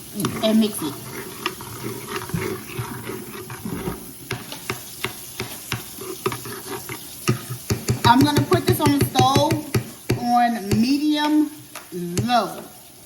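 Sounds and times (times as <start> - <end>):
spoon clinking and scraping bowl: 0.0 - 10.8.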